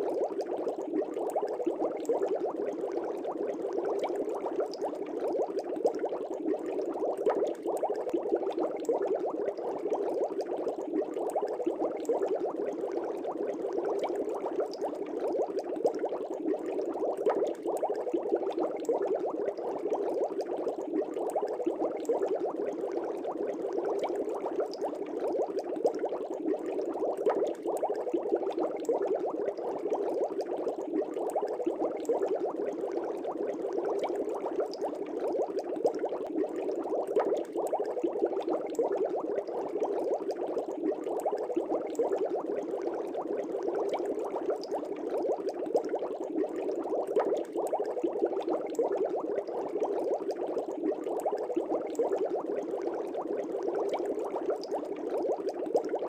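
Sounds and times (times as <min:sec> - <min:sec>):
air bubbles in fish tank: 0:00.0 - 0:56.0.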